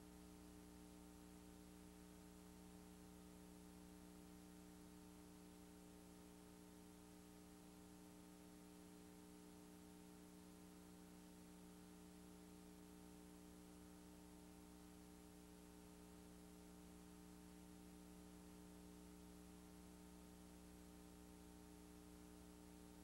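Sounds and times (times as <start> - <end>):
faint electrical hum with hiss: 0.0 - 23.0.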